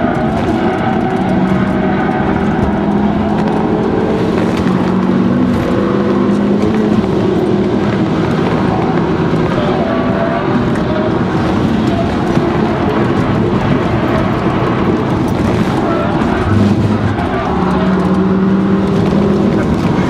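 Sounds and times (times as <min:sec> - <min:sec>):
car engine running hard: 0:00.0 - 0:20.0.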